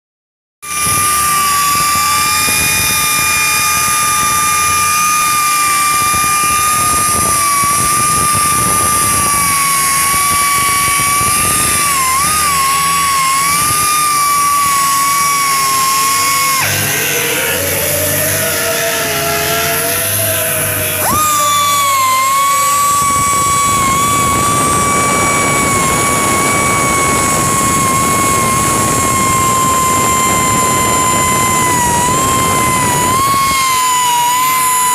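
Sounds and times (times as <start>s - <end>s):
air sander whining: 0.6s - 34.9s.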